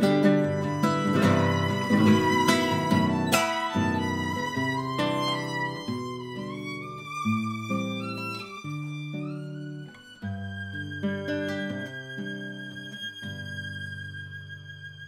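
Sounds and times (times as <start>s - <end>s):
acoustic guitar chords: 0.0s - 14.1s
violin bowed notes: 0.0s - 15.0s.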